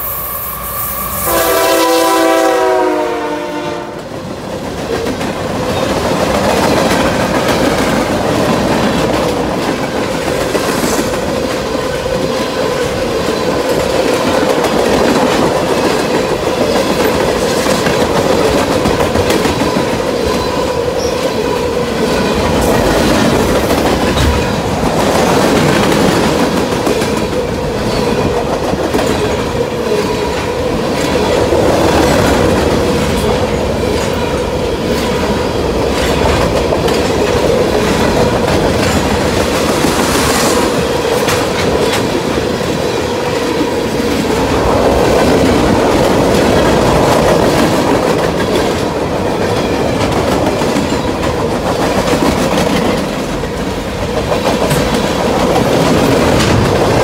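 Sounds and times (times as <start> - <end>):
freight train wheels clattering: 4.1 - 57.0.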